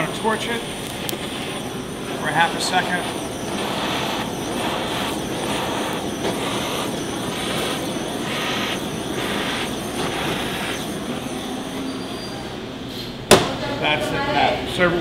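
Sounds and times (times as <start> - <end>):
kitchen torch flame roaring: 0.0 - 13.5.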